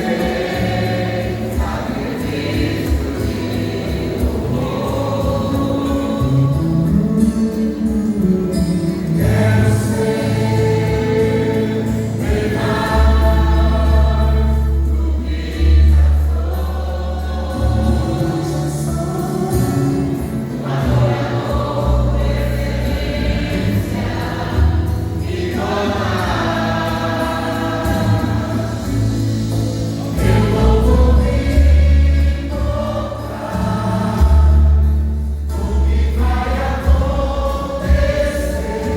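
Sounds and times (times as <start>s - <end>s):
group singing in harmony: 0.0s - 38.9s
held bass notes: 0.0s - 38.9s.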